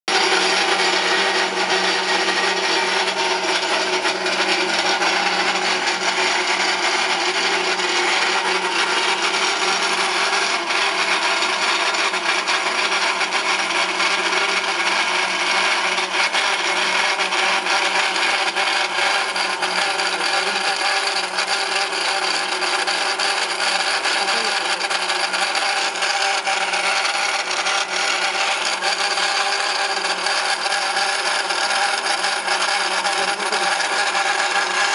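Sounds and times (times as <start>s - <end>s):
constant motor hum: 0.1s - 34.9s
steady scraping: 0.1s - 34.9s.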